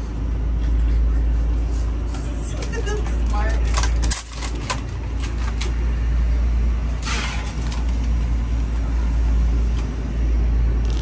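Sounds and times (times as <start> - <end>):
boat engine drone: 0.0 - 7.1, 7.7 - 11.0.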